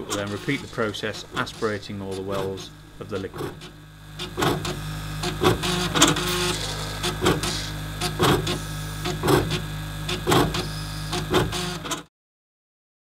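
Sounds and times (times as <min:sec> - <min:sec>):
plate washer pump hum: 0:00.0 - 0:12.0.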